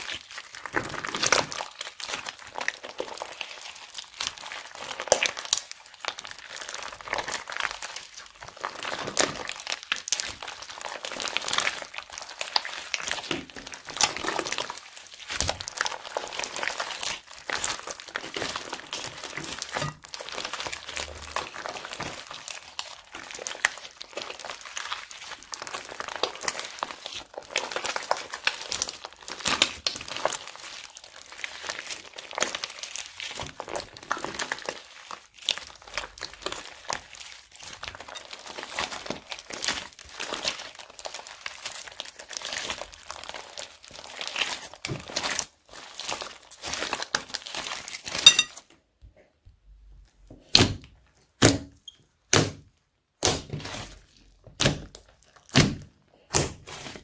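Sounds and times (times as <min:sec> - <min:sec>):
plastic bags crinkling: 0:00.0 - 0:48.6.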